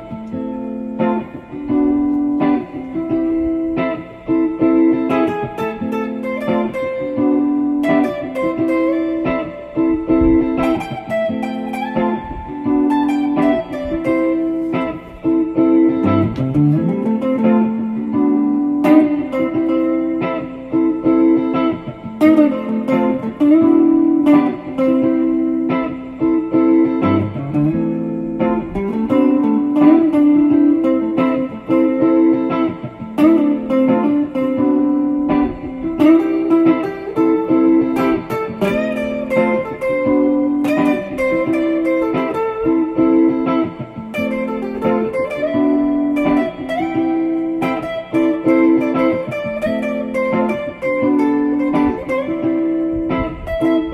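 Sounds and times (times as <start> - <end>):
plucked guitar notes: 0.0 - 53.9.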